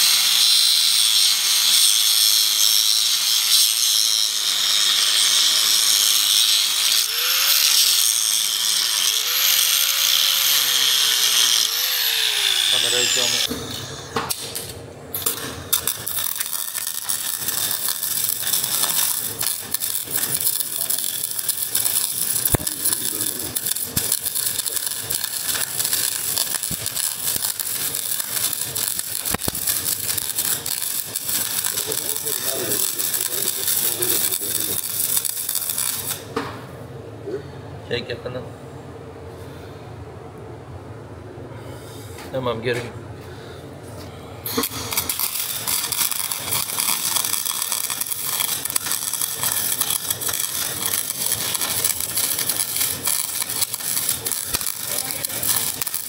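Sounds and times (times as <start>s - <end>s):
angle grinder grinding steel: 0.0s - 14.0s, 15.2s - 36.3s, 44.5s - 56.0s
arc welding crackle: 0.0s - 36.4s, 44.4s - 56.0s.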